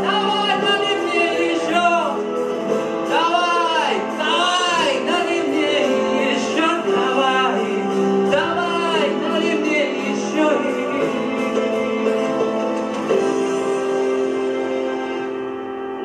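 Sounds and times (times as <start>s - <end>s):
man singing: 0.0s - 13.4s
instrumental accompaniment: 0.0s - 16.0s.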